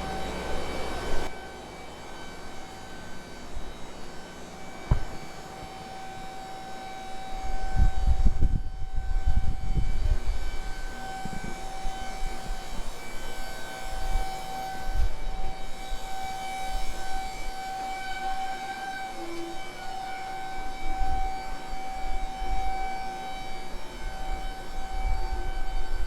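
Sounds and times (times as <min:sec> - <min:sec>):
electric pump motor whine: 0:00.0 - 0:26.0.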